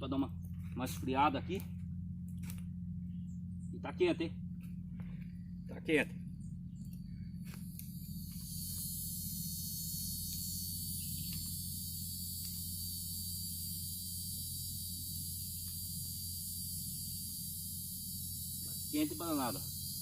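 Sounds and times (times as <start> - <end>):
cicadas buzzing: 0.0 - 20.0
low hum: 0.0 - 20.0.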